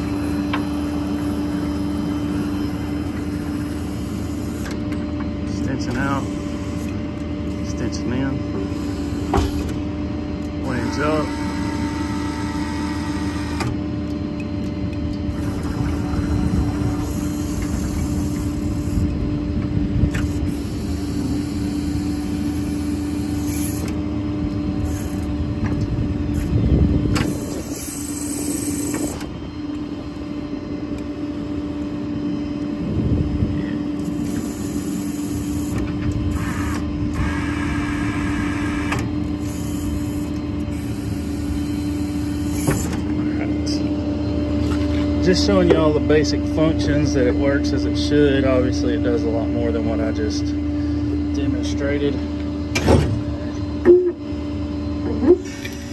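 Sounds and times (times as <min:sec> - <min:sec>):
diesel engine running: 0:00.0 - 0:55.9
hydraulic crane operating: 0:00.0 - 0:55.9
steady hum: 0:00.0 - 0:55.9.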